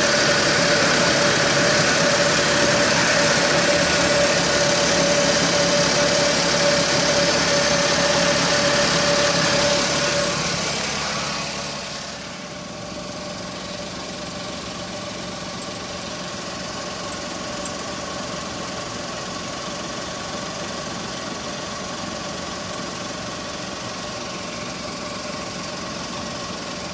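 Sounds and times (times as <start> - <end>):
car engine idling: 0.0 - 26.9
loud steady whine: 0.0 - 26.9.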